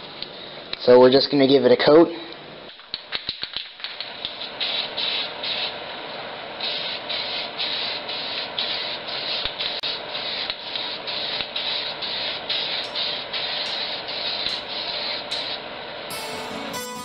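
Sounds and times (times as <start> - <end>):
spray paint hissing: 2.9 - 16.8.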